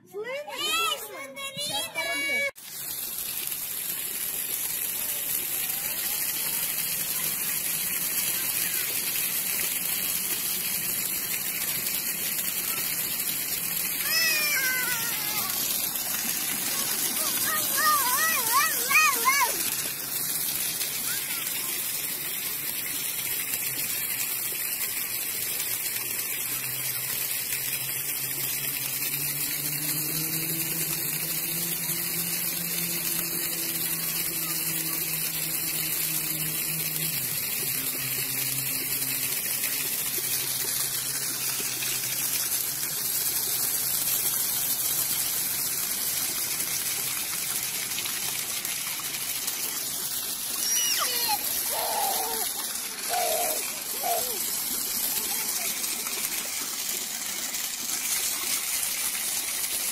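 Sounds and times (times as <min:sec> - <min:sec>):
fountain jets splashing on stone: 0:00.2 - 0:59.9.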